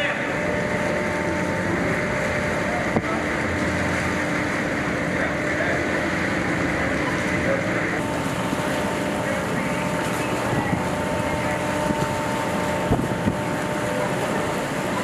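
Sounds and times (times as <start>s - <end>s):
outboard motors running: 0.0s - 15.0s.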